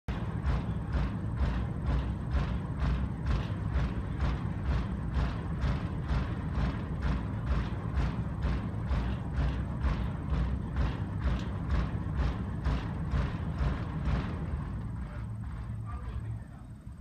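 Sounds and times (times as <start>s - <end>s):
steady low rumble: 0.1s - 17.0s.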